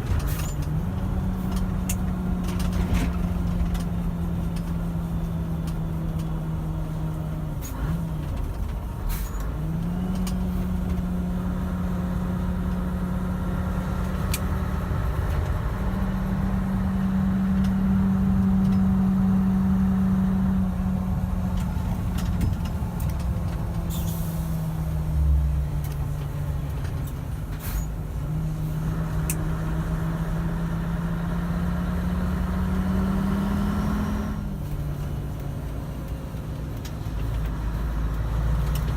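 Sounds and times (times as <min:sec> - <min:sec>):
diesel truck engine pulling away: 0:00.0 - 0:38.9.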